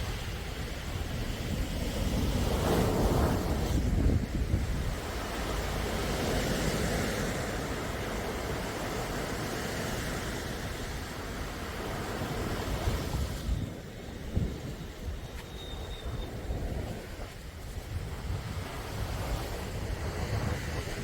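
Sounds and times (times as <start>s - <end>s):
sea waves washing on shore: 0.0s - 21.0s.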